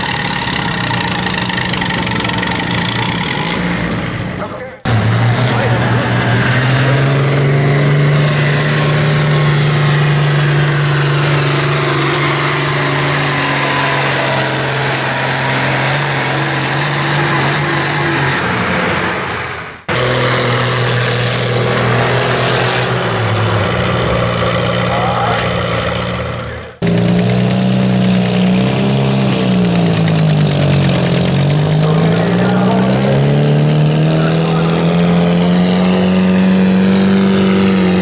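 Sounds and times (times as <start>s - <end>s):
tractor diesel engine running hard: 0.0s - 38.0s.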